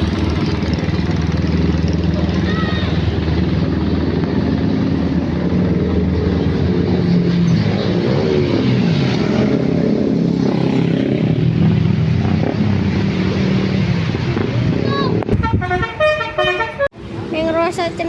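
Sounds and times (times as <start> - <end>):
motorcycles passing: 0.0 - 18.0
passing vehicle engines: 0.0 - 18.0.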